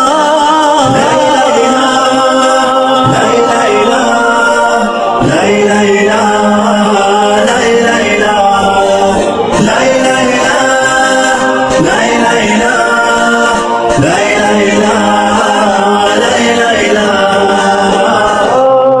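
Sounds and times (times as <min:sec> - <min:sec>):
a cappella voices singing: 0:00.0 - 0:19.0.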